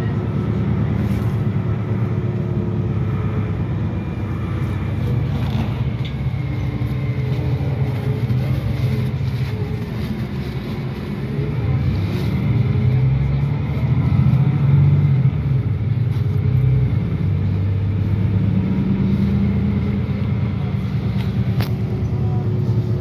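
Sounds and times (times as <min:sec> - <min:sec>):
bus engine hum: 0:00.0 - 0:23.0
road noise: 0:00.0 - 0:23.0.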